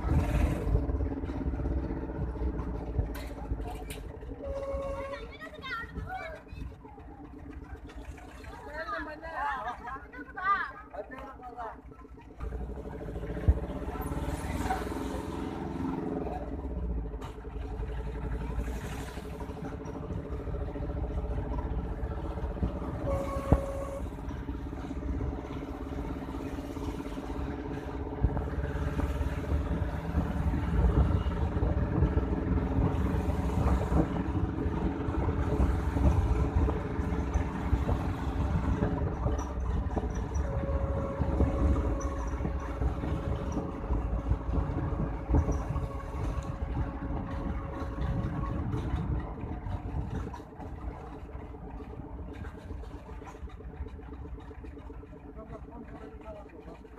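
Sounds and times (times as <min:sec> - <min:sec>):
vehicle motor hum: 0:00.0 - 0:08.8, 0:11.1 - 0:56.9
road rumble: 0:00.0 - 0:56.9.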